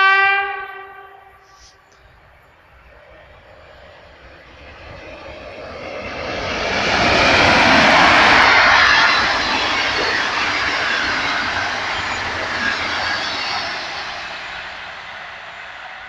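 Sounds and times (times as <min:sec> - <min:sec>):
train wheels rolling on track: 0:01.5 - 0:16.0
locomotive rushing past: 0:02.6 - 0:16.0.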